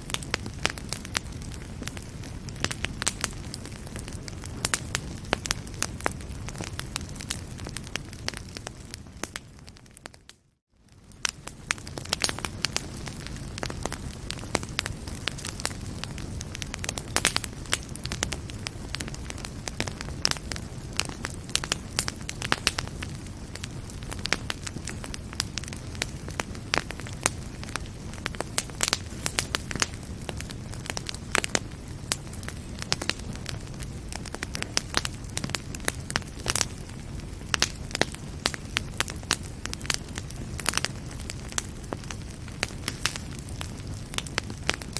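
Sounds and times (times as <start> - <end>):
low rumble of flames: 0.0 - 44.9
wood fire crackling and popping: 0.0 - 44.9.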